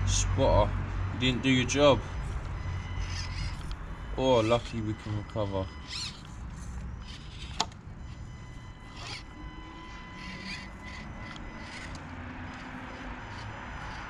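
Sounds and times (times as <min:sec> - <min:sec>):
electric motor whine: 0:02.2 - 0:14.0.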